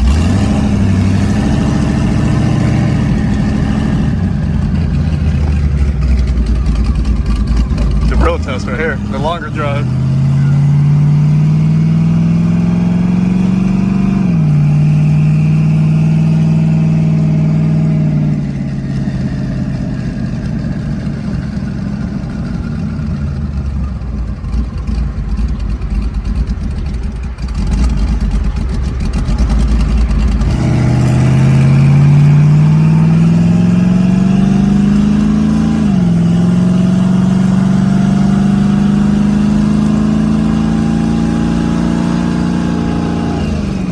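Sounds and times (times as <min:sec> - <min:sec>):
car engine accelerating: 0:00.0 - 0:43.9
road noise: 0:00.0 - 0:43.9.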